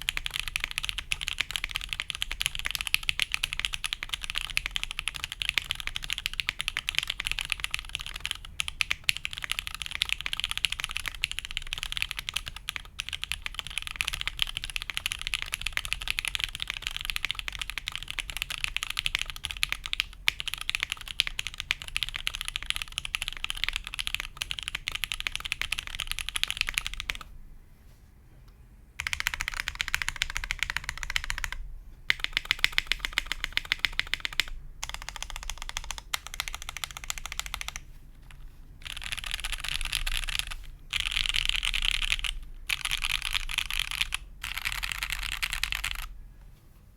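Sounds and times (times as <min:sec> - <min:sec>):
fast typing on mechanical keyboard: 0:00.0 - 0:27.3, 0:29.0 - 0:46.1.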